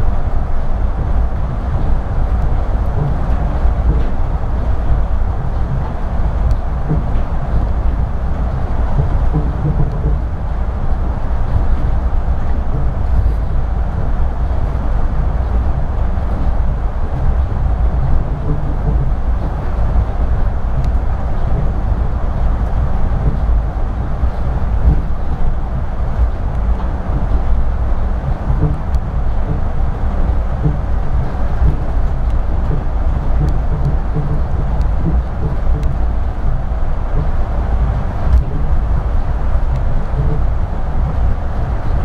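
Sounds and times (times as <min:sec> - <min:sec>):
train low rumble: 0:00.0 - 0:42.0.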